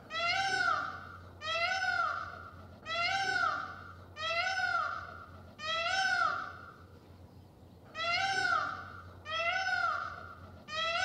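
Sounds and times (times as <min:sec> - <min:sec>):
peacock calling: 0:00.0 - 0:06.8, 0:07.9 - 0:11.0.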